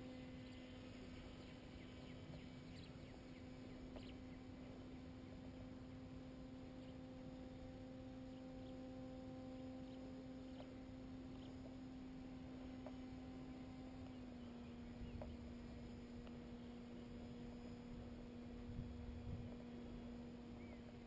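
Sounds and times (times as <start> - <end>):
distant paramotor droning: 0.0 - 21.0.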